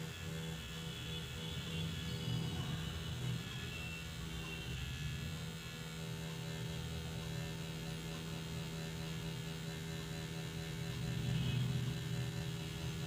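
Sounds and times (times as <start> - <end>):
tattoo machine humming: 0.0 - 13.0.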